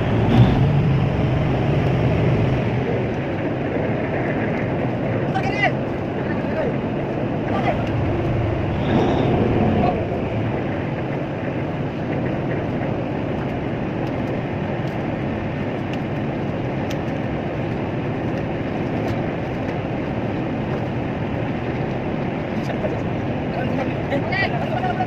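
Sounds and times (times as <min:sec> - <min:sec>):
boat engine drone: 0:00.0 - 0:25.0
rushing noise: 0:00.0 - 0:25.0.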